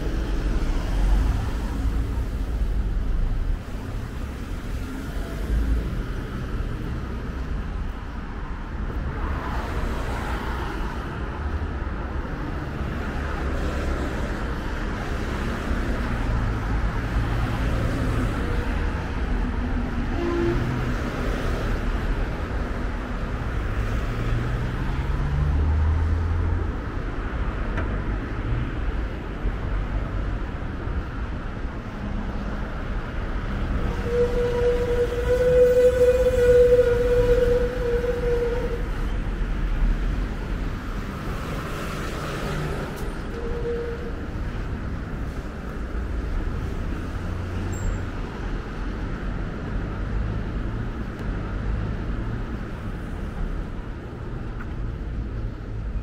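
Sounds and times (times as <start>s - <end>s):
vehicles passing on a road: 0.0s - 56.0s.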